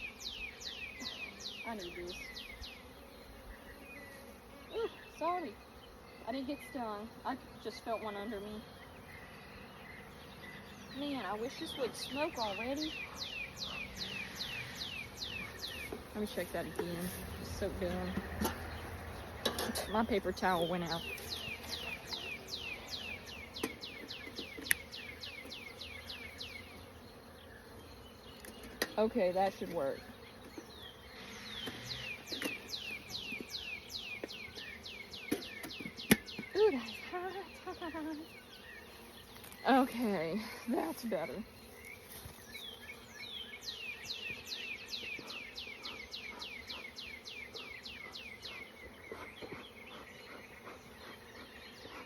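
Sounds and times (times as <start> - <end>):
honeybees humming: 0.0 - 52.0.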